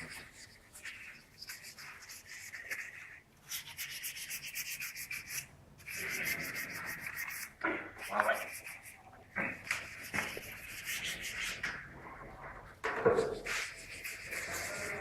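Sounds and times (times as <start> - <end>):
rapid rhythmic scraping: 0.0 - 11.9, 12.9 - 15.0.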